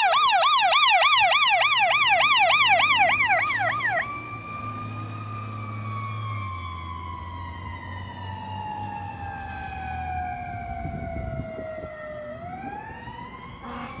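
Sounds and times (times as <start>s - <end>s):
fire engine siren wailing: 0.0s - 14.0s
truck engine rumble: 1.2s - 14.0s.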